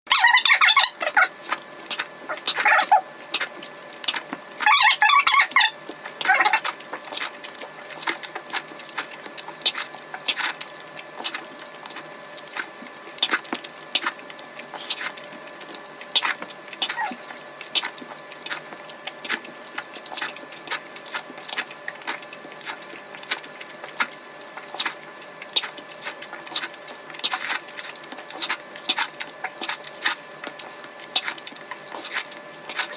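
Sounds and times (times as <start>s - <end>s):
person eating close up: 0.1s - 32.9s.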